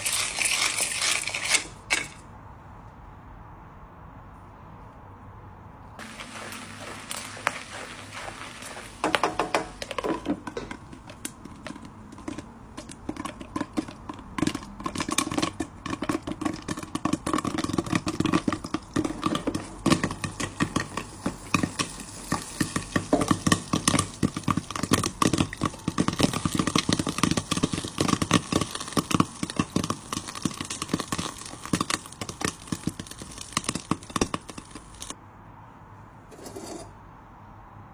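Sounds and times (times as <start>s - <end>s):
popcorn popping in a pan: 0.0s - 2.2s, 6.0s - 35.2s.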